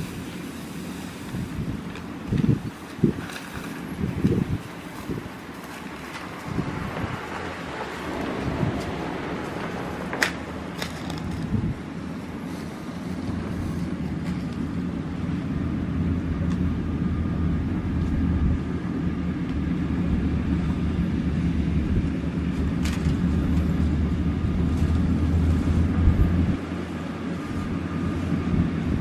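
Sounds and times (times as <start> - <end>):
combine harvester engine drone: 0.0 - 29.0.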